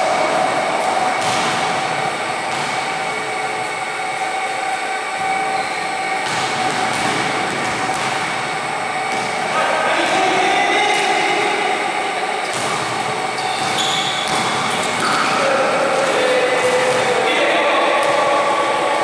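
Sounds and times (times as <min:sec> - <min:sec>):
pedestal fans humming: 0:00.0 - 0:19.0.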